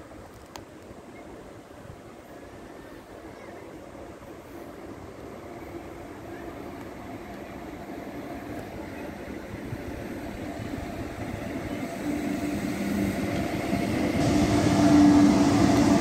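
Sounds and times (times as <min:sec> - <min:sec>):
electric train rumbling: 0:01.3 - 0:16.0.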